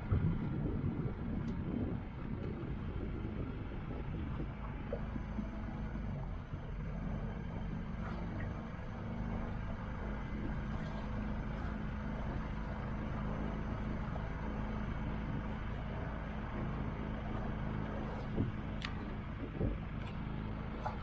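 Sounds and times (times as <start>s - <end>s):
motorboat engine droning: 0.0s - 21.0s
wind: 0.0s - 21.0s.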